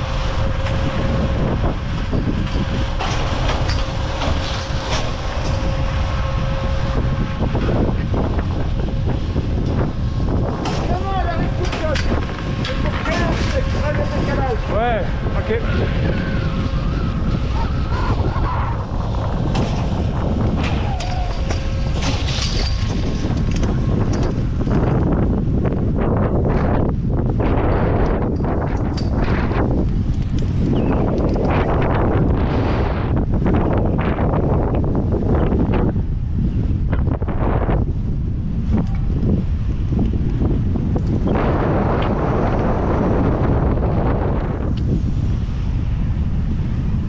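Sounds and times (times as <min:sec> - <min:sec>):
held machine whine: 0:00.0 - 0:37.7
lift machinery rumbling: 0:00.0 - 0:47.0
wind buffeting microphone: 0:00.0 - 0:47.0.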